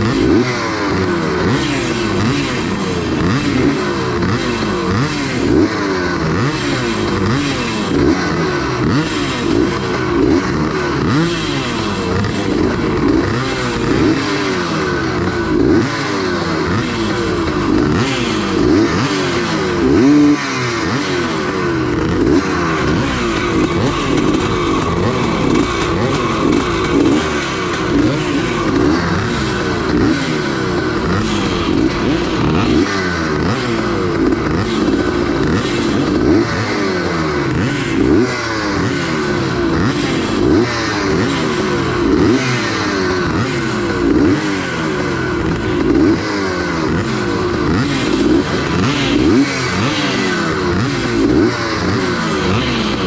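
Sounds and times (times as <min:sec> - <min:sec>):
motocross bikes idling and revving: 0:00.0 - 0:53.0.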